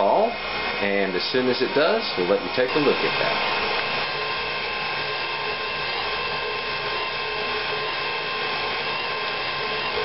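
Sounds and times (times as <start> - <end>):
stand mixer running: 0.0 - 10.0.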